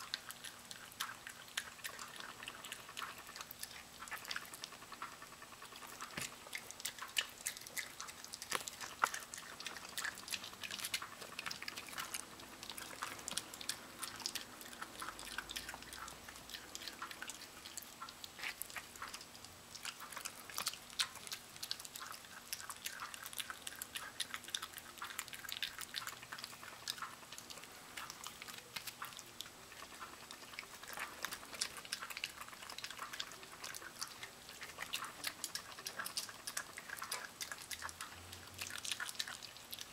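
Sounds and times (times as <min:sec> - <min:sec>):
dog chewing raw chicken: 0:00.0 - 0:39.9.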